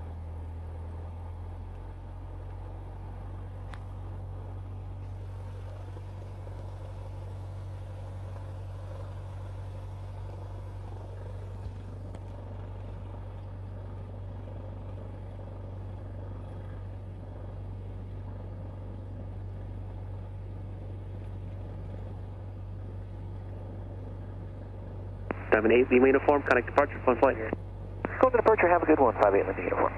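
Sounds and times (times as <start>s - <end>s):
light aircraft engine hum: 0.0s - 29.9s.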